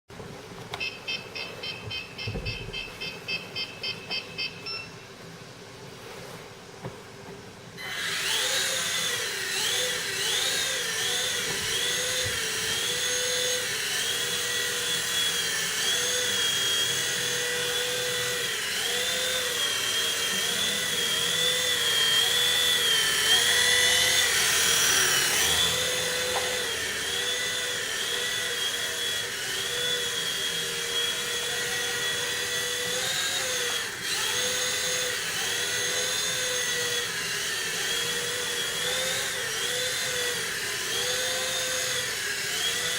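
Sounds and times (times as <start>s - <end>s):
toy helicopter motor whine: 7.8s - 42.9s.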